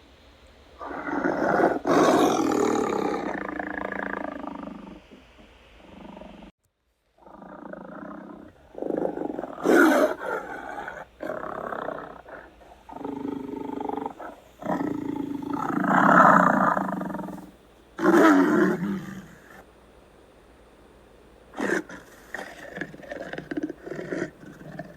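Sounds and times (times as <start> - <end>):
big cat roaring: 0.8 - 6.5, 7.2 - 19.6, 21.6 - 24.9.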